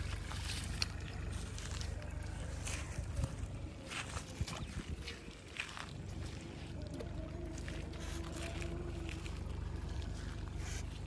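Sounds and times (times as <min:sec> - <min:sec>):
faint steady hum: 0:00.0 - 0:11.0
wind rumbling on microphone: 0:00.0 - 0:11.0.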